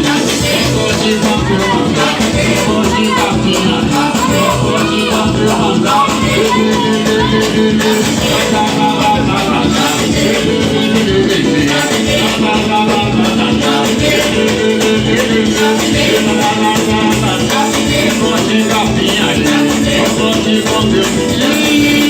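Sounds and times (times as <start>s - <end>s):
samba music: 0.0s - 22.0s.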